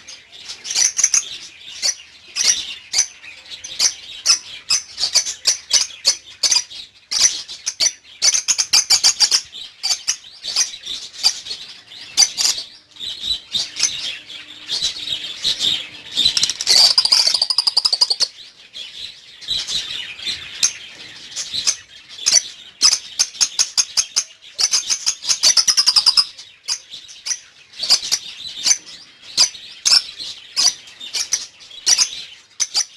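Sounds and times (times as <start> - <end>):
lovebirds chirping: 0.0 - 32.9.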